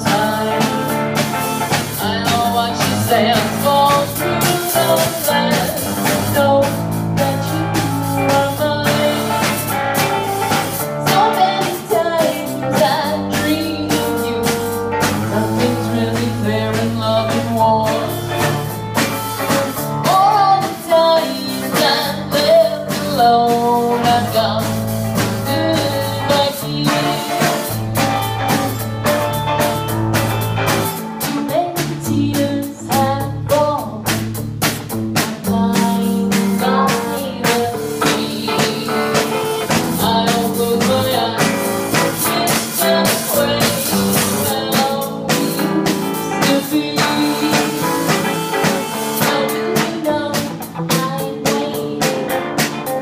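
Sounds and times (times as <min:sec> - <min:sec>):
woman singing: 0:00.0 - 0:29.9, 0:30.6 - 0:53.0
drum kit: 0:00.0 - 0:53.0
electric guitar: 0:00.0 - 0:53.0.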